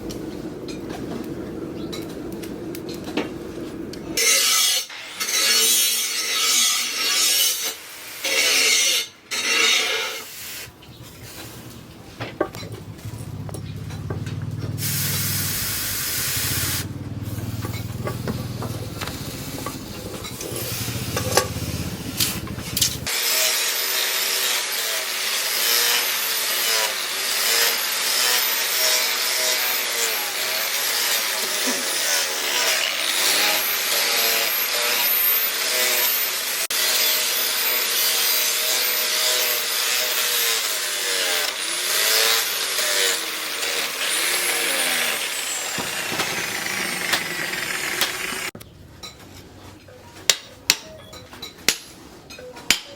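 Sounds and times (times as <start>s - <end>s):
power tool grinding: 4.2s - 11.6s, 12.4s - 48.6s.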